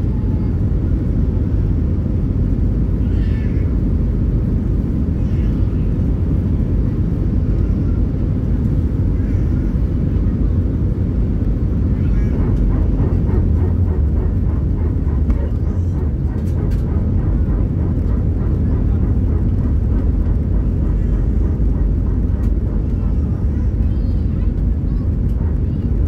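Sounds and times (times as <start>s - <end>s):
airflow over fuselage: 0.0s - 26.0s
deep rumble of jet engines: 0.0s - 26.0s.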